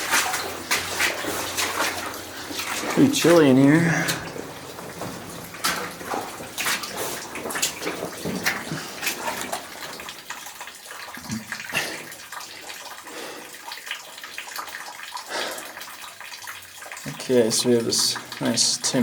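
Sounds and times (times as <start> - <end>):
wading through water sloshing: 0.0 - 16.9.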